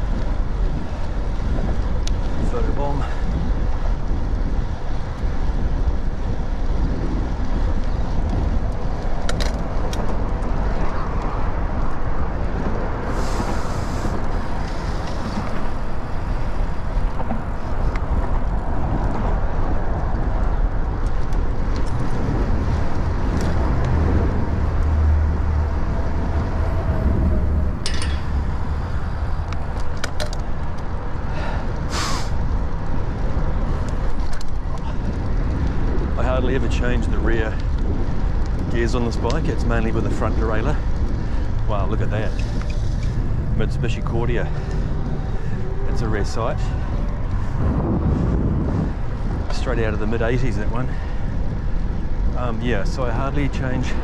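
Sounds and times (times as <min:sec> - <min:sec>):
cars passing: 0:00.0 - 0:54.0
passing vehicle rumble: 0:00.0 - 0:54.0.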